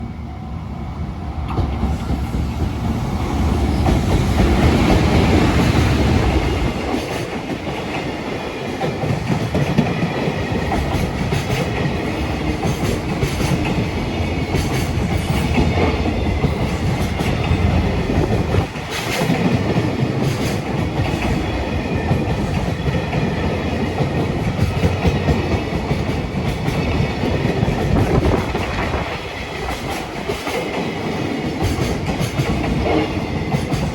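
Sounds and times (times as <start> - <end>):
freight train rumbling past: 0.0 - 33.9.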